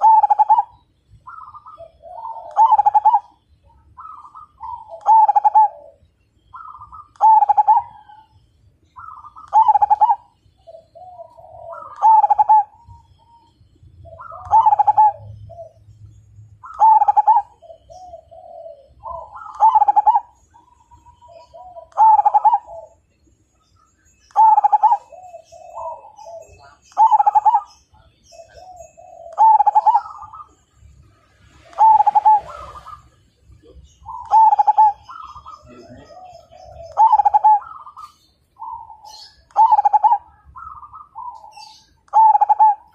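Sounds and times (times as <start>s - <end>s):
dove cooing: 0.0s - 8.3s, 9.0s - 16.0s, 16.6s - 23.0s, 24.2s - 30.6s, 31.5s - 42.9s
faint high chirping: 0.0s - 42.9s.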